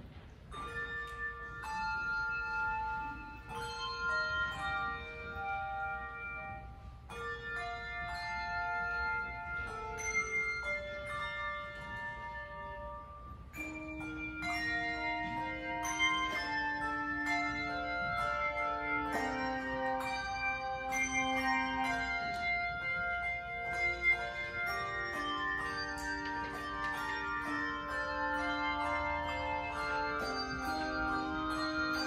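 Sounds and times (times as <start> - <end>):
handbell choir playing: 0.4 - 32.0.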